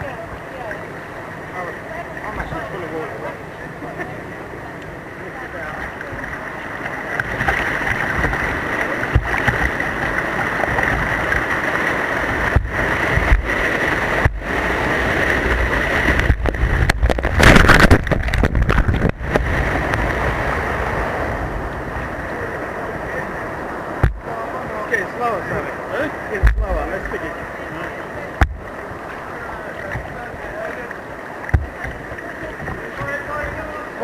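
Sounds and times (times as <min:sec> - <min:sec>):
white water rushing over weir: 0:00.0 - 0:34.0.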